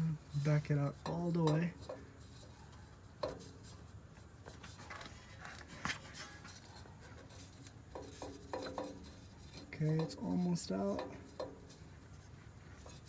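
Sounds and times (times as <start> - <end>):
oil filter rubbing and handling: 0.0 - 13.0.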